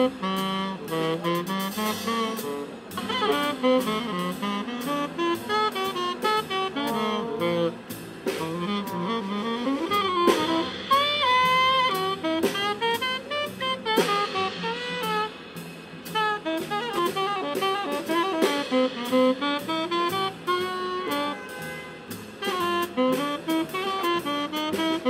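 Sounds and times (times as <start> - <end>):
upright bass: 0.0 - 21.3, 22.3 - 25.0
drum kit with cymbals: 0.0 - 25.0
saxophone melody: 0.0 - 25.0.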